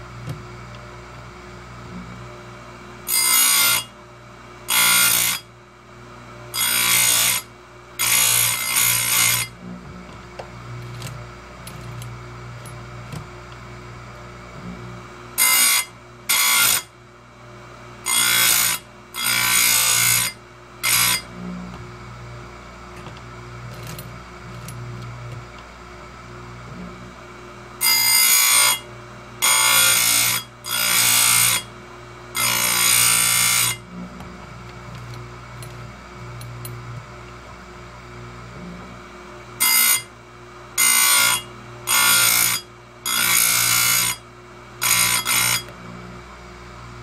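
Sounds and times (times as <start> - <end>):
grinder motor hum: 0.0 - 47.0.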